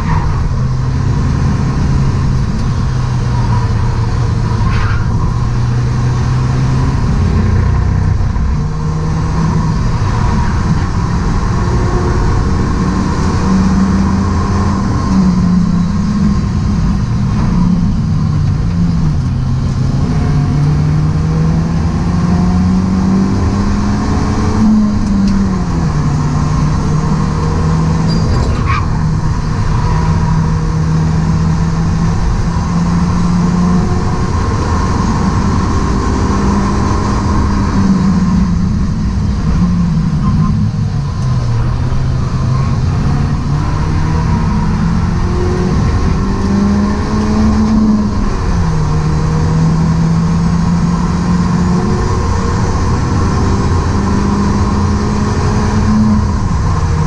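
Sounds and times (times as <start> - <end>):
car engine revving in cabin: 0.0 - 57.0
road and wind noise: 0.0 - 57.0.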